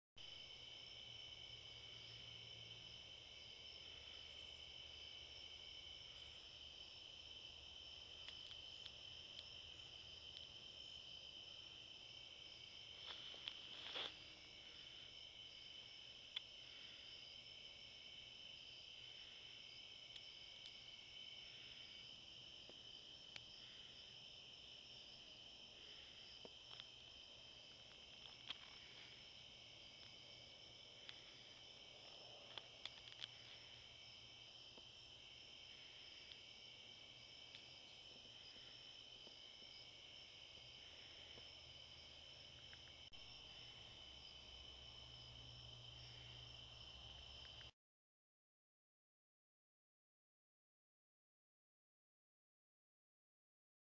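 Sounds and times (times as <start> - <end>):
insects trilling: 0.2 - 47.7.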